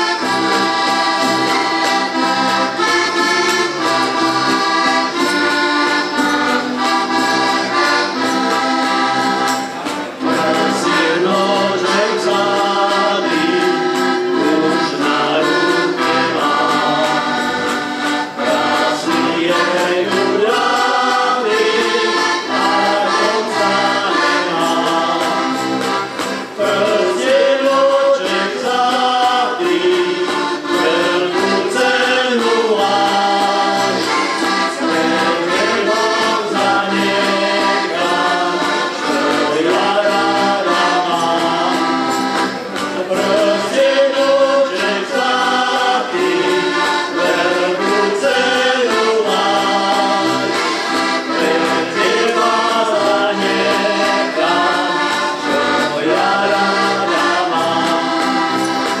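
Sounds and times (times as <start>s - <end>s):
button accordions playing folk song: 0.0s - 59.0s
people singing in chorus: 10.2s - 59.0s.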